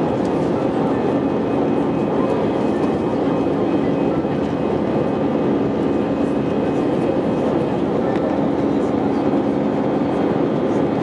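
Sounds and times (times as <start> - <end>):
jet engine rush in cabin: 0.0 - 11.0.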